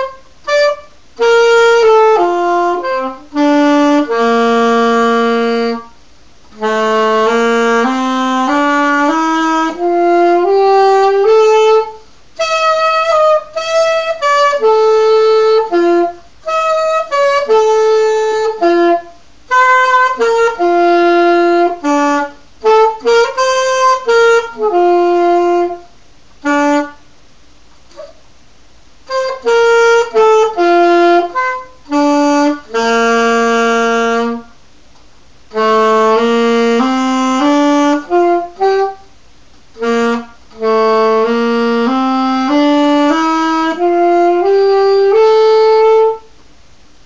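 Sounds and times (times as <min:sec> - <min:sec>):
saxophone held notes: 0:00.0 - 0:27.0, 0:29.0 - 0:34.6, 0:35.5 - 0:46.3.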